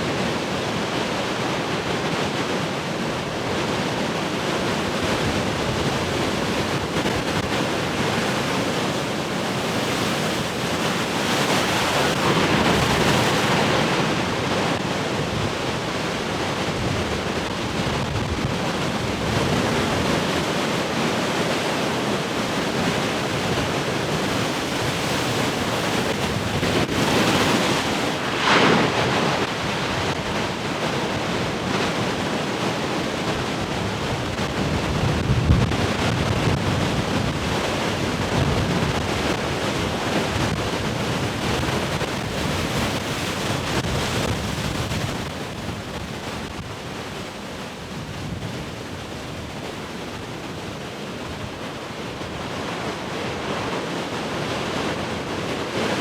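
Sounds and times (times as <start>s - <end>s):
ocean waves crashing on shore: 0.0s - 56.0s
wind gusting on microphone: 0.0s - 56.0s.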